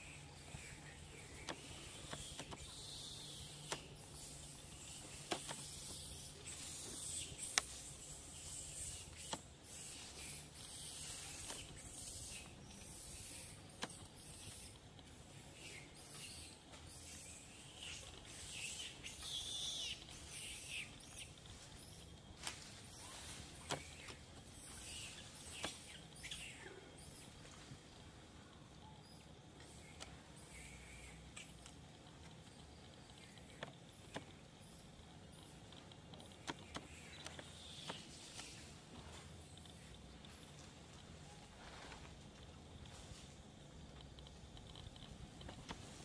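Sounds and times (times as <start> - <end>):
rustling leaves and branches: 0.0 - 28.7, 35.2 - 46.0.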